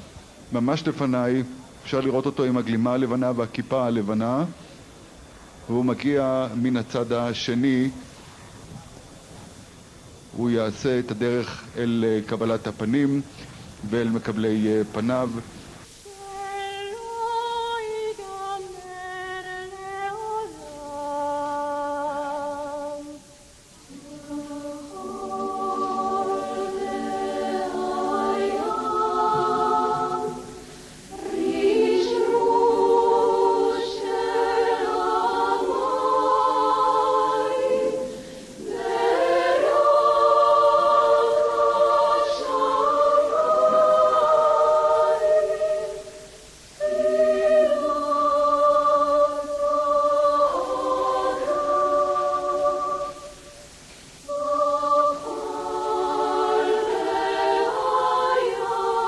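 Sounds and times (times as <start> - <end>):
choir singing sustained chords: 0.0 - 8.6, 9.2 - 59.0.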